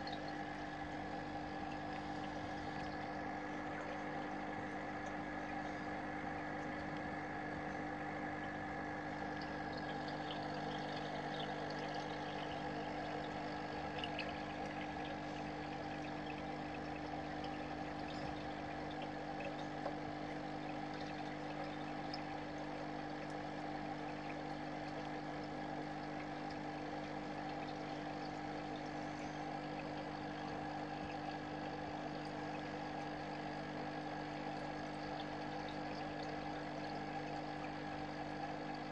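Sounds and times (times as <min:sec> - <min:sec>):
aquarium pump humming: 0:00.0 - 0:38.9
running water: 0:00.0 - 0:38.9.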